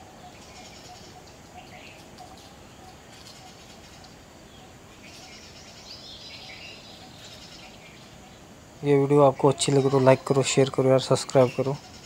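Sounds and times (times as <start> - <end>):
birds chirping: 0.0 - 12.0
faint outdoor background noise: 0.0 - 12.0.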